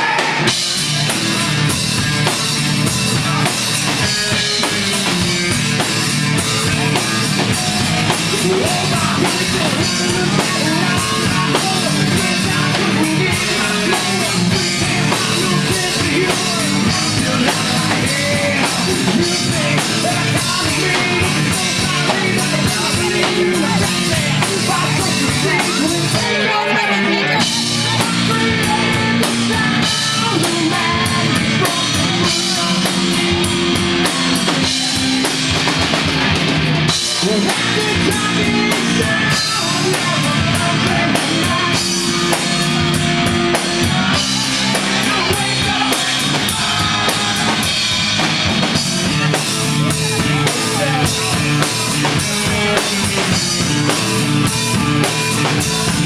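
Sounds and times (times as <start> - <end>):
drum kit: 0.0 - 56.0
guitar: 0.0 - 56.0
live rock band playing: 0.0 - 56.0.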